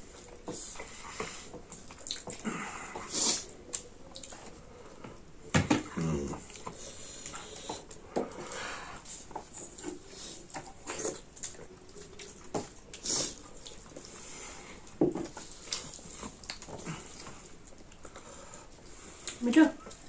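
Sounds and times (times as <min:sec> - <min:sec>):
wet chewing and smacking: 0:00.0 - 0:20.0.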